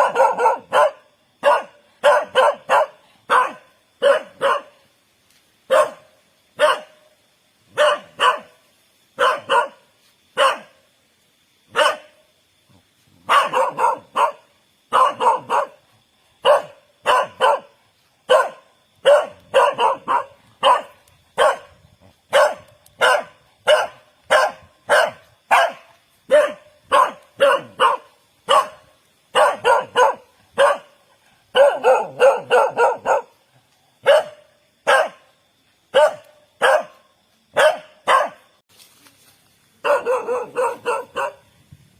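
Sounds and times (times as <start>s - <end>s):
dog barking: 0.0s - 4.8s, 5.7s - 7.0s, 7.7s - 8.6s, 9.2s - 10.8s, 11.7s - 12.2s, 13.2s - 15.8s, 16.4s - 21.7s, 22.3s - 33.4s, 34.0s - 35.3s, 35.9s - 38.5s, 39.8s - 41.5s.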